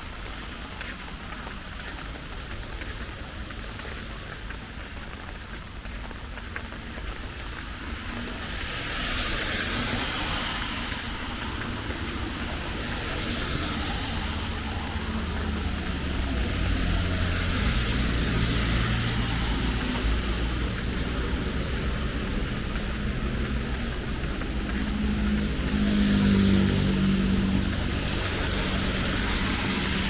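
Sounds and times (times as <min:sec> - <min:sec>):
steady rain: 0:00.0 - 0:30.0
vehicle passing on wet road: 0:00.0 - 0:30.0
low engine hum: 0:00.2 - 0:30.0.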